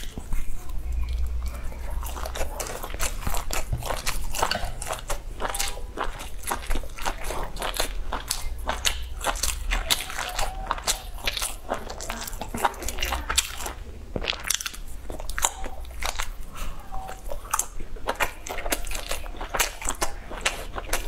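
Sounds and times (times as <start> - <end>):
person chewing with wet smacks: 0.0 - 21.0.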